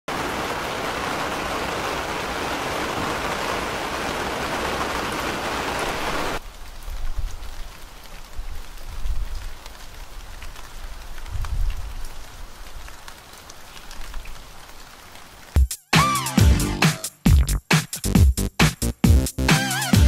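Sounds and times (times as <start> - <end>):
rain hissing: 0.1 - 19.9.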